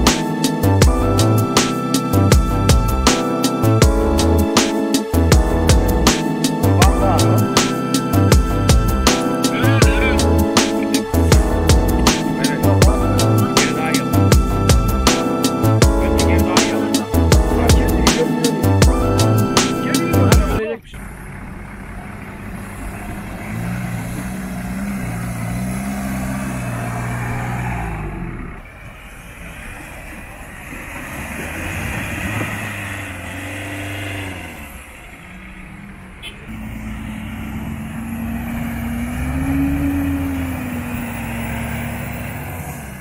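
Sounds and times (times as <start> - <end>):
truck engines revving: 0.0 - 43.0
tyres churning: 0.0 - 43.0.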